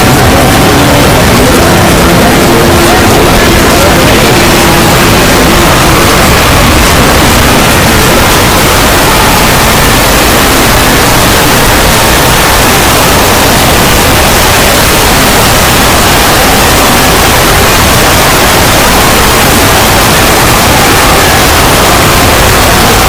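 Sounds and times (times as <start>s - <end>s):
distorted static noise: 0.0s - 23.0s.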